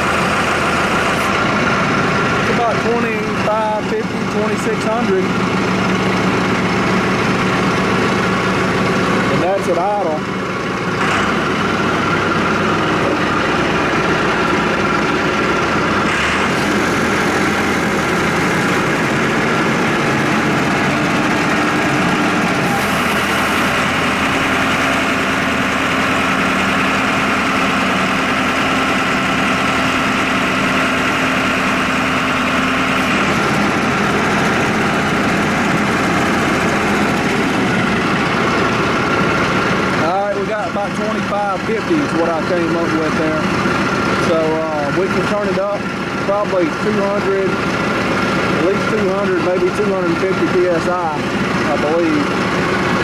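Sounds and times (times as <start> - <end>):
diesel tractor engine idling: 0.0 - 53.0
hydraulic pump hum: 0.0 - 53.0.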